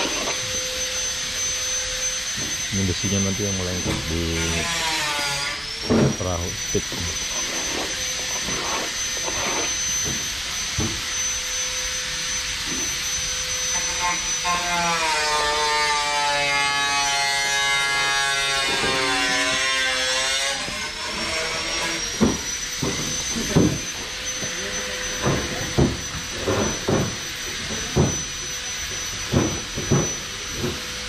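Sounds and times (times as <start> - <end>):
high whine: 0.0 - 16.1, 20.8 - 31.0
power tool motor running: 0.0 - 31.0.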